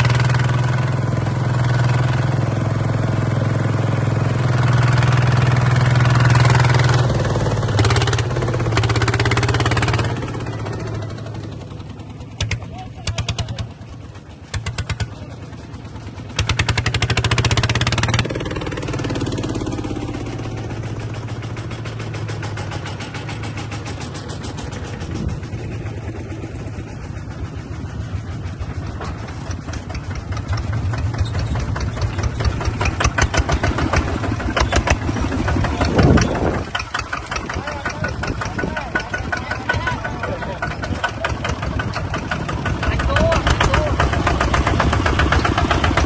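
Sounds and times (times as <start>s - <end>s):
bulldozer engine running: 0.0s - 46.0s.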